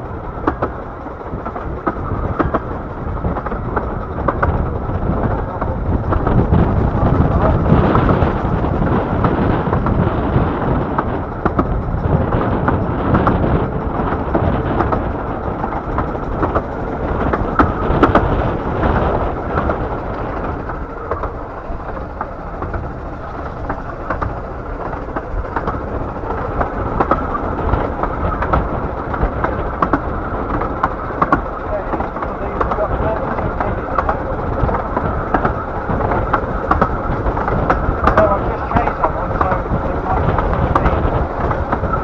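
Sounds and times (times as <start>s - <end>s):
train rumbling on track: 0.0s - 42.0s
sharp clicks and knocks: 0.2s - 42.0s.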